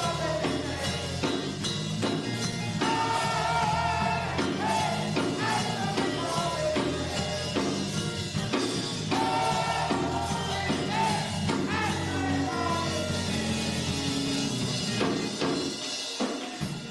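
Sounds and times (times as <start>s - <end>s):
worship singing with band: 0.0s - 16.9s.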